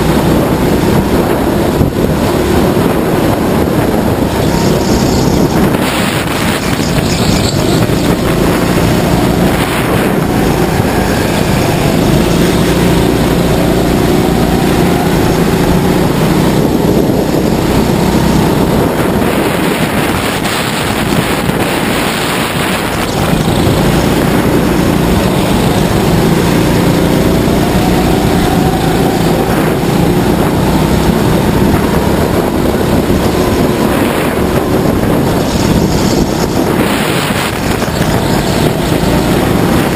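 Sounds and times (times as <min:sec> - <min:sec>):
go-kart engine revving: 0:00.0 - 0:39.9
wind on microphone: 0:00.0 - 0:39.9.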